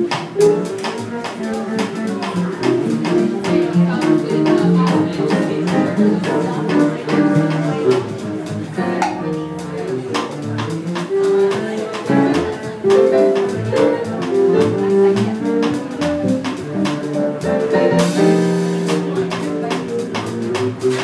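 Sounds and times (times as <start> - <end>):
jazz instrumental music: 0.0 - 21.0.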